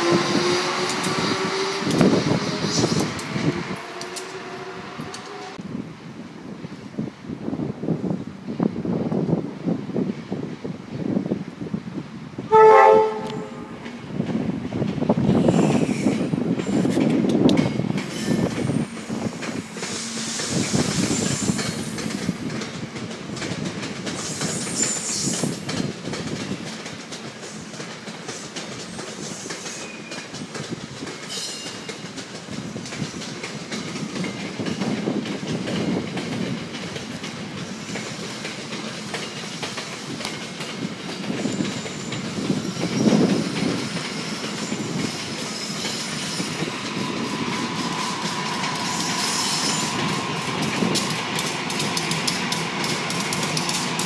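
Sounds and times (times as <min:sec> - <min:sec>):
train wheels rumbling and clicking: 0:00.0 - 0:05.9, 0:06.6 - 0:54.0.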